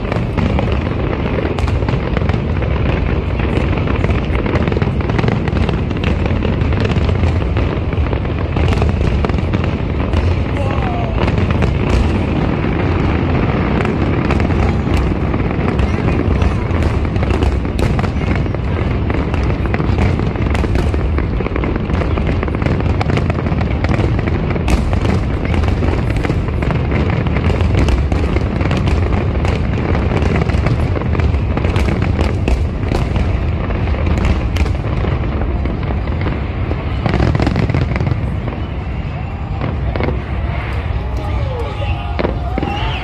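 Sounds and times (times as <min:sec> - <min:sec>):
rumble of firework booms: 0:00.0 - 0:40.5
firework cracks and bangs: 0:00.0 - 0:43.0.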